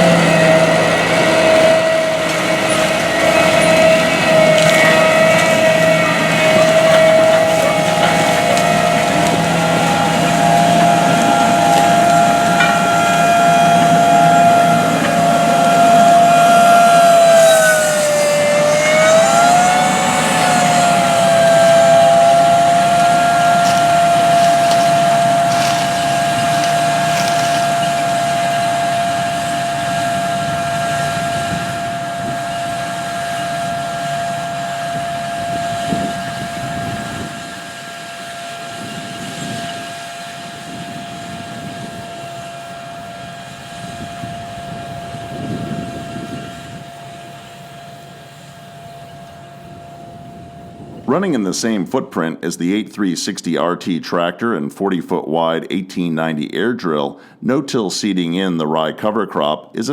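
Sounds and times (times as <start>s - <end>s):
tractor engine with high whine: 0.0s - 53.2s.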